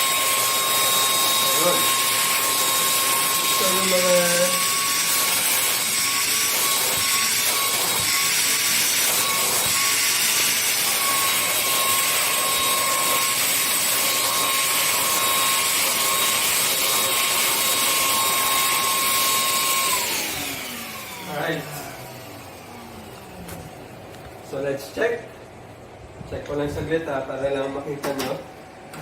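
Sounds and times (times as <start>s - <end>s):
vacuum motor whining: 0.0s - 24.5s.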